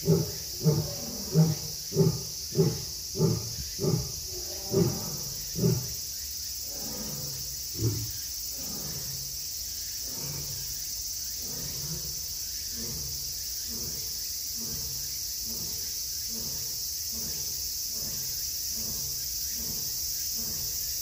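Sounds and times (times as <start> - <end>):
lion grunting: 0.0 - 9.4, 10.0 - 10.8, 11.4 - 20.9
high insect drone: 0.0 - 21.0.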